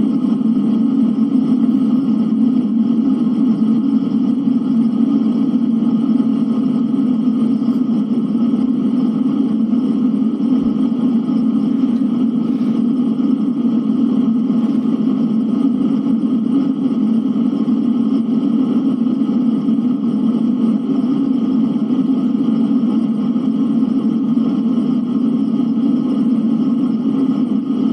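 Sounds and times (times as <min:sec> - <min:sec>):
blizzard wind: 0:00.0 - 0:27.9.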